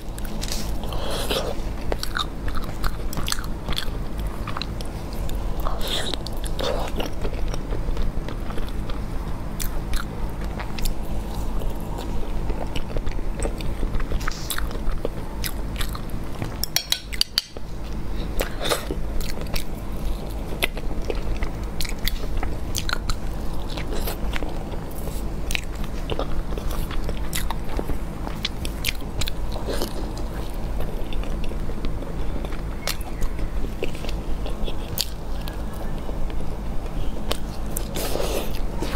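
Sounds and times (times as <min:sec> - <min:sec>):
biting and chewing food: 0:00.0 - 0:38.9
steady low hum: 0:00.0 - 0:38.9.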